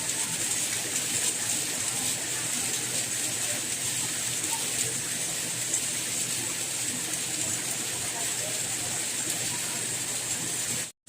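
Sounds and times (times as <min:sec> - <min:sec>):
steady soft rain: 0:00.0 - 0:10.9.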